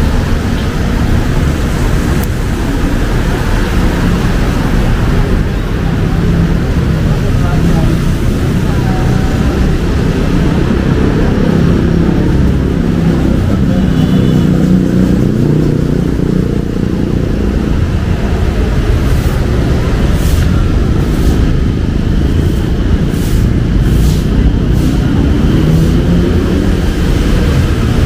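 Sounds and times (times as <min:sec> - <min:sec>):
street traffic low rumble: 0:00.0 - 0:28.0.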